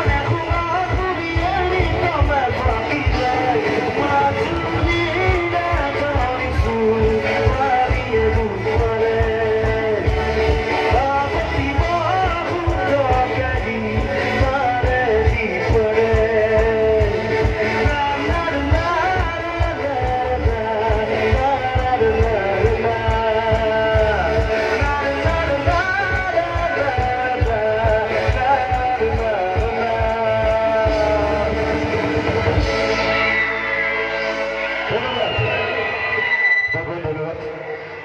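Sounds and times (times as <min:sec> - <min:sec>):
man singing into a microphone: 0:00.0 - 0:33.1
steady drum beat: 0:00.0 - 0:33.3
electric guitar: 0:00.0 - 0:38.0
keyboards: 0:00.0 - 0:38.0.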